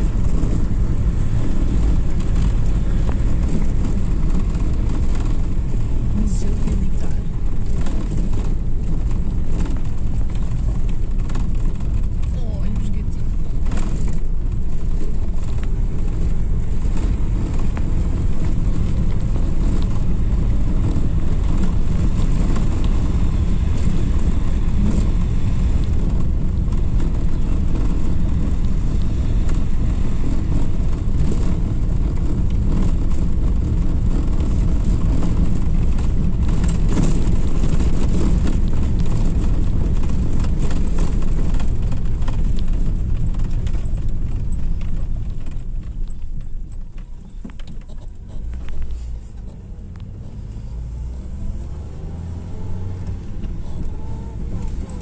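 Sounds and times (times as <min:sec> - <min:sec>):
car engine running: 0:00.0 - 0:55.0
road and tyre noise: 0:00.0 - 0:55.0.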